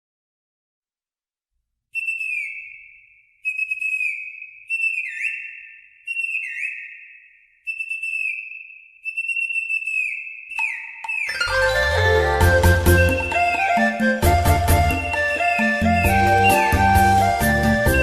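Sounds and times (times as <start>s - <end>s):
high whistle-like tone: 2.0s - 18.0s.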